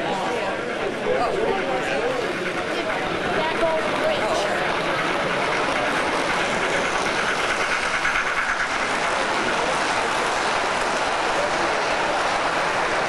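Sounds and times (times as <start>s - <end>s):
model train wheels rolling: 0.0s - 13.0s.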